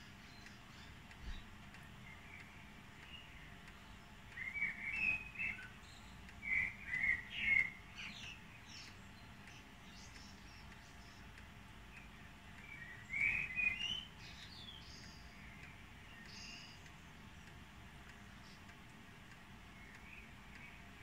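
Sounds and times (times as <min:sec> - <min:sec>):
blackbird singing: 0:00.0 - 0:11.3, 0:11.9 - 0:18.7, 0:19.7 - 0:21.0.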